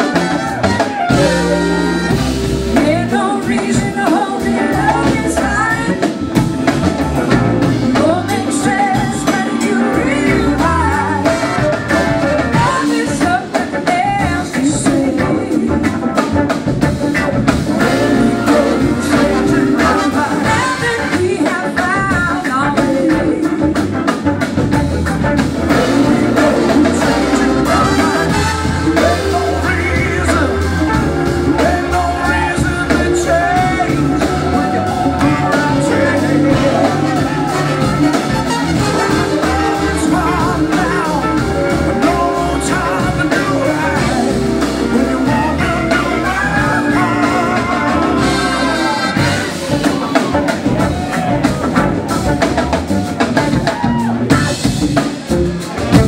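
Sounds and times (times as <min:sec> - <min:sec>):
person singing: 0:00.0 - 0:23.9, 0:25.6 - 0:54.5
bass guitar: 0:00.0 - 0:56.0
drums: 0:00.0 - 0:56.0
electric guitar: 0:00.0 - 0:56.0.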